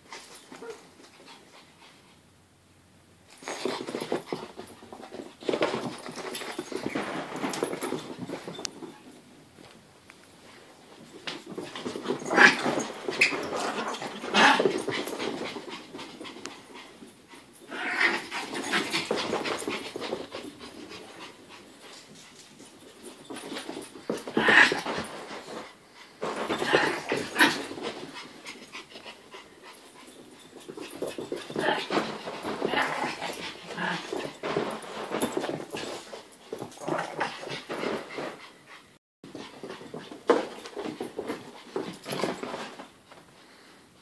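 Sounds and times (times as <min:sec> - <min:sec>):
dogs panting and scuffling: 0:00.0 - 0:02.4, 0:03.3 - 0:44.0.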